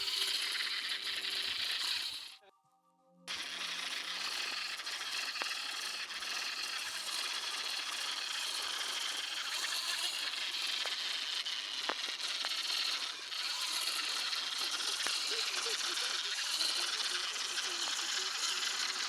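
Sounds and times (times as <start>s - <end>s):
plastic gears rattling: 0.0s - 2.4s, 3.3s - 19.0s
small electric motors whirring: 0.0s - 2.5s, 3.3s - 19.0s.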